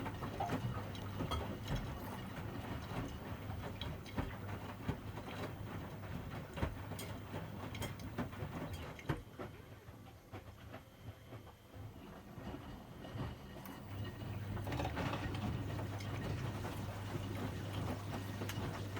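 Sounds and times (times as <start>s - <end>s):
washing machine motor hum: 0.0s - 18.9s.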